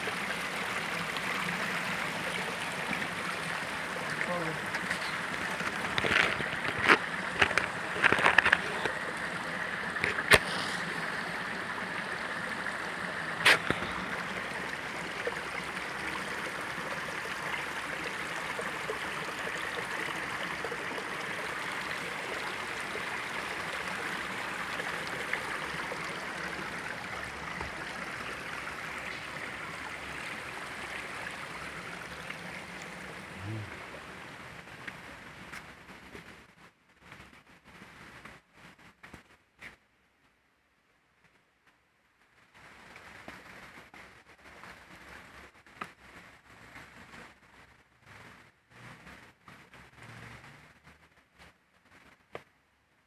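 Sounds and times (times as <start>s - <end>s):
stream running over rocks: 0.0s - 39.8s, 41.0s - 53.0s.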